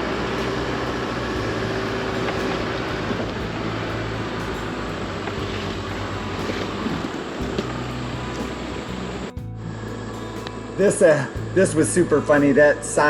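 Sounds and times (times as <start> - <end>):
road noise: 0.0 - 13.0
truck engine running: 0.0 - 13.0.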